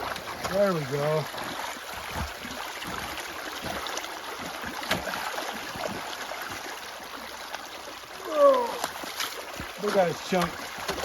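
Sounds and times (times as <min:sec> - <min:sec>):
water rushing in a ditch: 0:00.0 - 0:11.0.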